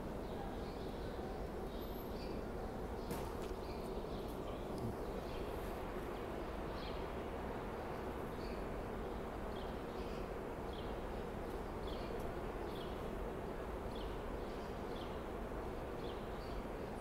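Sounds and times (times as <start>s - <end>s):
low hum of railway platform: 0.0s - 17.0s.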